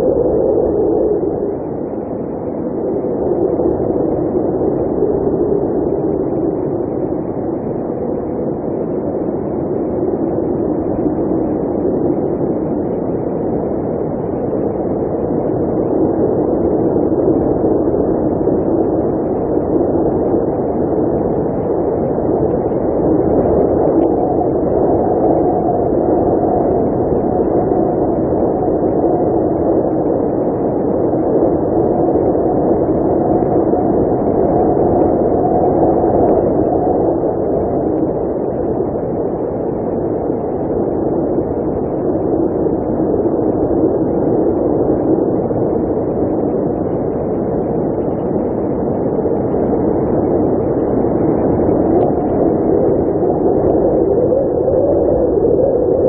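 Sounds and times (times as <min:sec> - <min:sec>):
blizzard wind blowing: 0:00.0 - 0:56.0.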